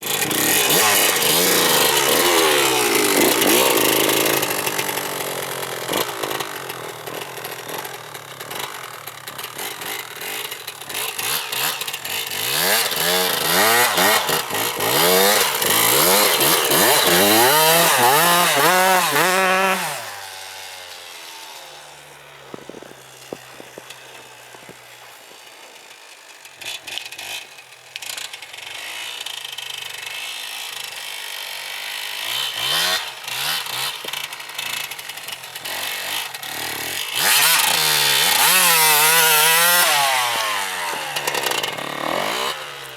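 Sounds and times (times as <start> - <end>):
motorbike engine revving: 0.0 - 25.4, 26.6 - 42.9.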